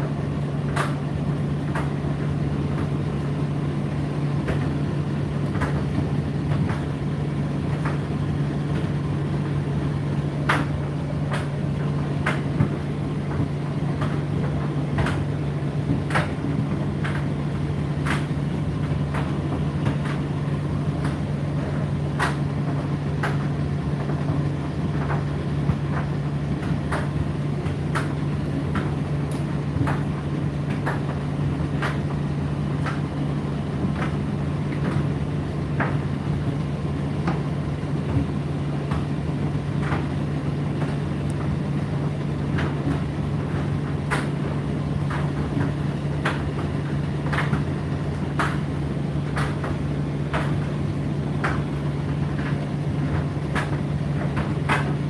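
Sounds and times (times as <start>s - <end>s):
tumble dryer humming: 0.0s - 55.0s.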